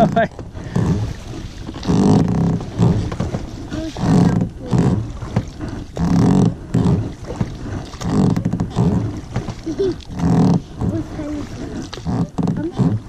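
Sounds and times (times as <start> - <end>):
oarlocks creaking: 0.0 - 13.0.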